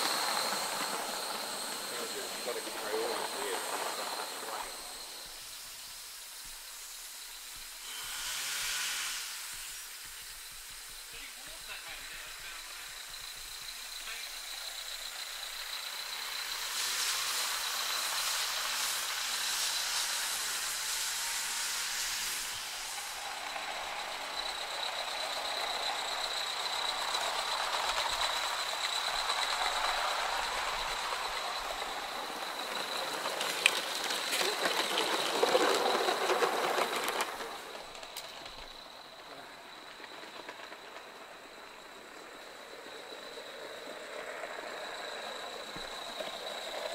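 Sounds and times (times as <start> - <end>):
steam hissing: 0.0 - 46.9
steam locomotive running: 0.0 - 46.9.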